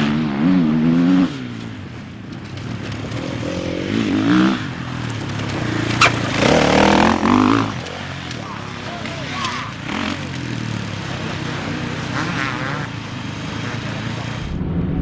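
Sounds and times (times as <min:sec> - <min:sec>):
dirt bike engine revving: 0:00.0 - 0:14.5.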